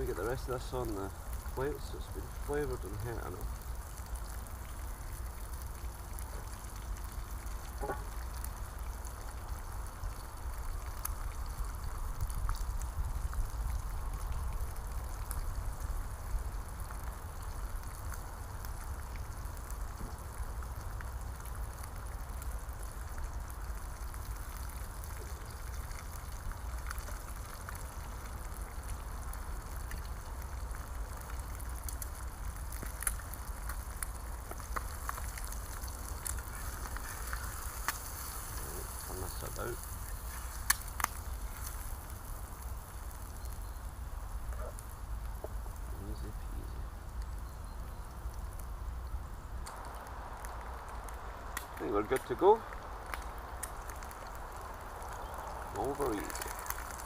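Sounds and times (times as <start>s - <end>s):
food sizzling over campfire: 0.0s - 57.0s.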